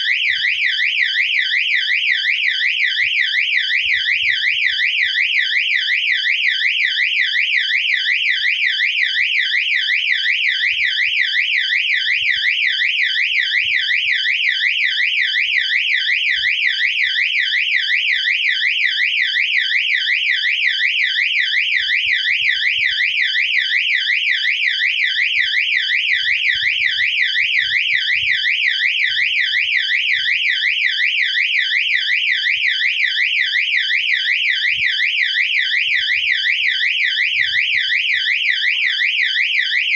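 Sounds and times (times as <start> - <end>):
fire alarm siren sweeping: 0.0 - 39.9.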